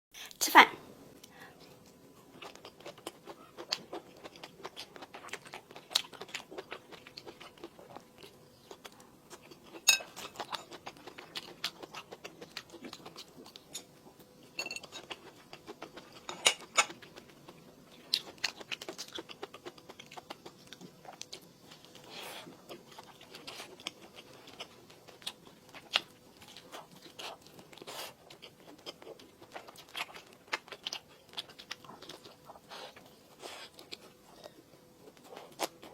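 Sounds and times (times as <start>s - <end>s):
mouth chewing and crunching: 1.7s - 35.9s.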